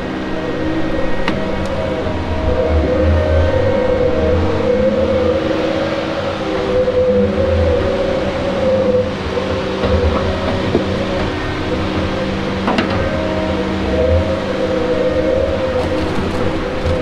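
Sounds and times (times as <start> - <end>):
diesel engine surging: 0.0 - 17.0
steady hydraulic whine: 0.0 - 17.0.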